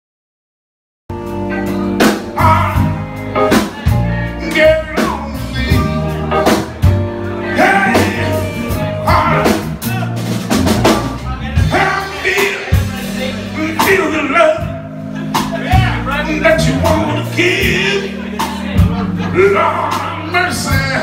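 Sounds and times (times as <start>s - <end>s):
live soul band playing: 1.1s - 21.0s
man singing: 1.5s - 10.2s, 10.8s - 21.0s.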